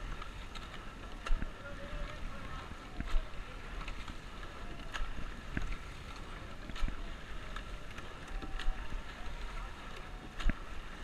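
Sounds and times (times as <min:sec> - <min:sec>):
oars clunking in oarlocks: 0:00.0 - 0:11.0
water rushing along hull: 0:00.0 - 0:11.0
wind on microphone: 0:00.0 - 0:11.0.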